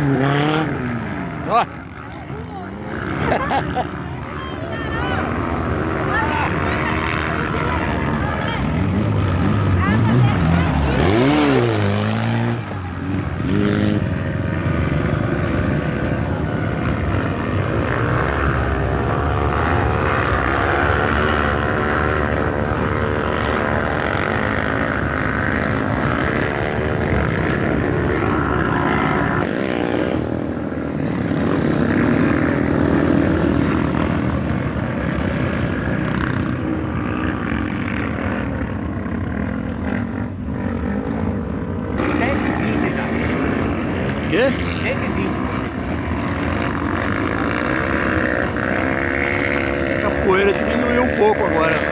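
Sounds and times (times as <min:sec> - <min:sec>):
buggy engine revving: 0:00.0 - 0:02.1, 0:04.8 - 0:51.9
steady engine drone: 0:00.0 - 0:51.9.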